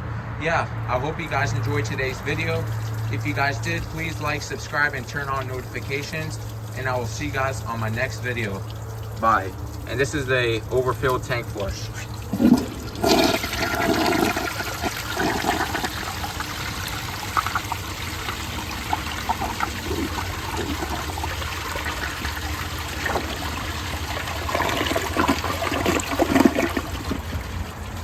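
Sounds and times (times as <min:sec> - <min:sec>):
toilet flushing: 0:01.2 - 0:28.0.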